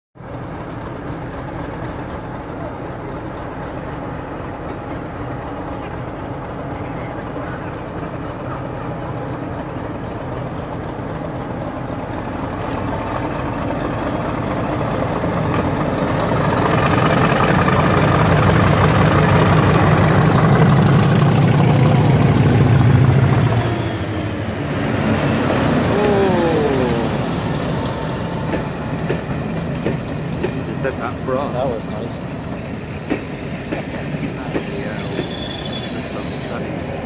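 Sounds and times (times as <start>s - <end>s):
diesel locomotive engine working hard: 0.2s - 37.0s
train coaches passing: 0.2s - 37.0s.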